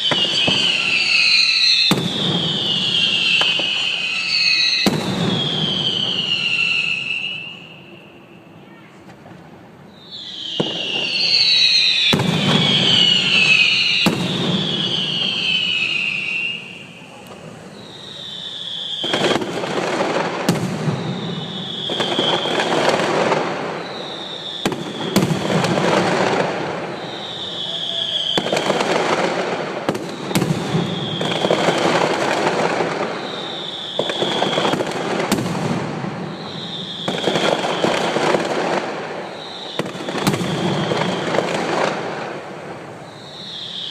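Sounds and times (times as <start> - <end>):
firework bangs: 0.0 - 43.9
firework crackling: 0.0 - 43.9
whistling firework shells: 0.0 - 43.9.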